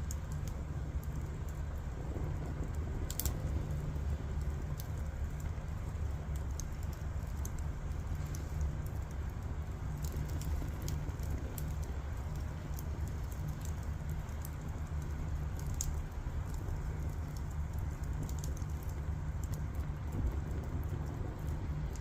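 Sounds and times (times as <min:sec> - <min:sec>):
fire rumbling and hissing: 0:00.0 - 0:22.0
firewood crackling and popping: 0:00.0 - 0:22.0.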